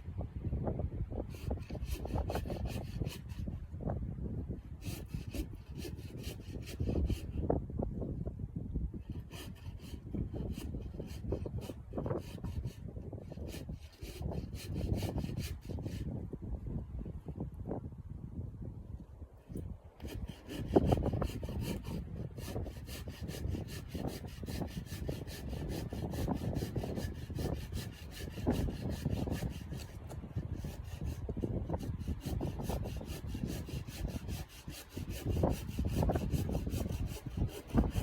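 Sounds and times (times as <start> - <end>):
hand saw cutting wood: 1.3 - 3.6, 4.8 - 7.4, 9.0 - 16.1, 19.5 - 38.0.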